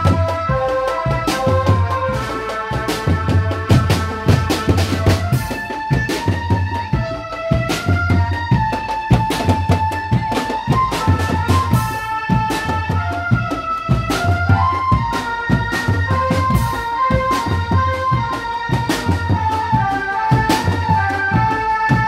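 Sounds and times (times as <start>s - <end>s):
bass and snare drums: 0.0s - 22.0s
melody of held notes: 0.0s - 22.0s.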